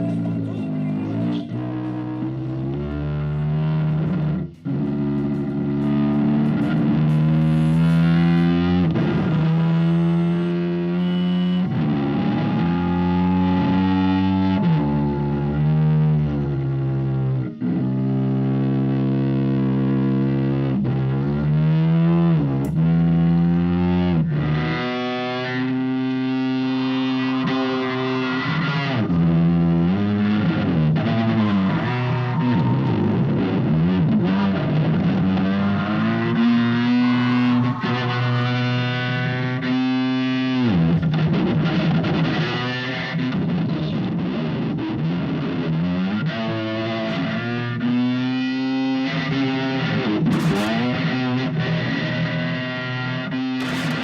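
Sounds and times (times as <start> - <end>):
imitated engine revving drone: 0.0 - 54.0.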